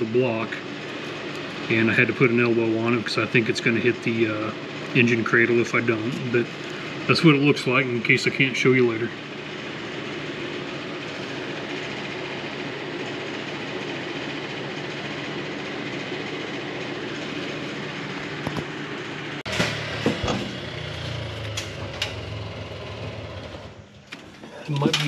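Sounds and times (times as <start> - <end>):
faint hum: 0.0 - 25.0
fan or motor running: 0.0 - 25.0.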